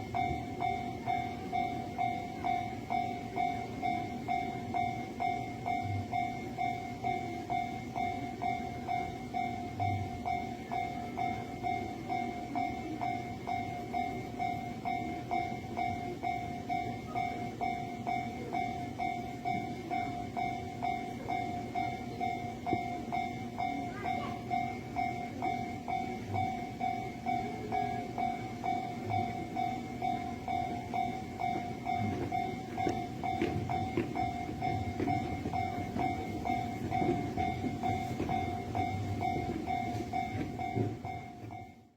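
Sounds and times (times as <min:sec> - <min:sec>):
level crossing alarm ringing: 0:00.0 - 0:41.9
low rumble of traffic: 0:00.0 - 0:41.9.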